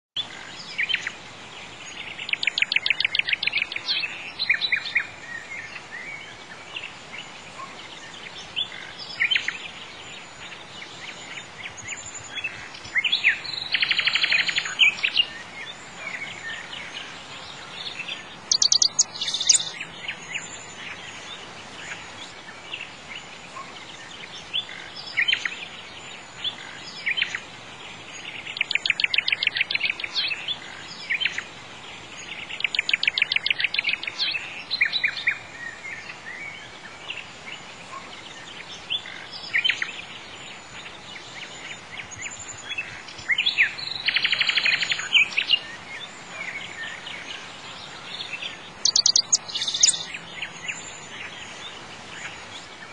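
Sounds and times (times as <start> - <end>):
birds singing: 0.2 - 52.9
faint steady hiss: 0.2 - 52.9.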